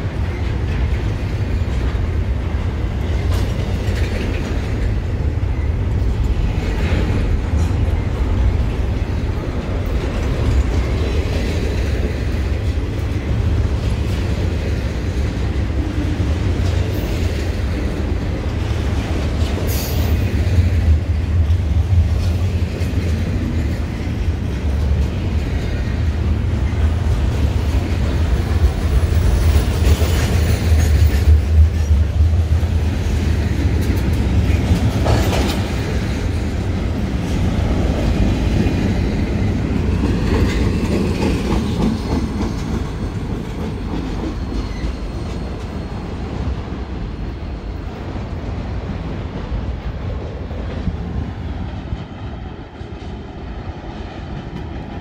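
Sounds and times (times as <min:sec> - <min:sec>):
freight train wheels clacking: 0:00.0 - 0:55.0.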